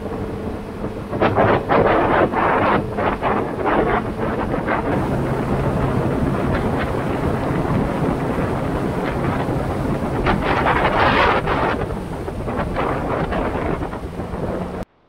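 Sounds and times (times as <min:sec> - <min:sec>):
boat engine humming: 0:00.0 - 0:14.9
wake spray rushing: 0:00.0 - 0:14.9
wind buffeting microphone: 0:00.0 - 0:14.9.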